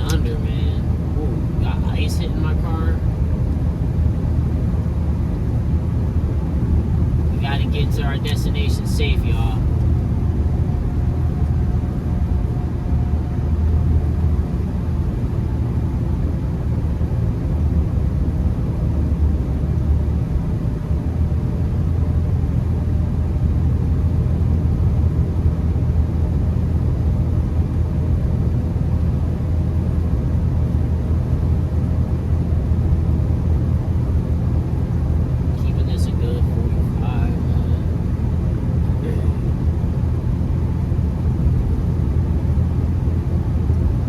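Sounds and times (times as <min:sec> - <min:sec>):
car engine and tyre noise in cabin: 0:00.0 - 0:44.0.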